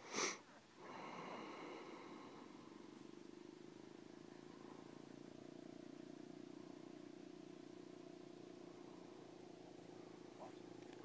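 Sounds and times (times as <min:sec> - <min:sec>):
faint pulsing low drone: 0:00.5 - 0:11.0.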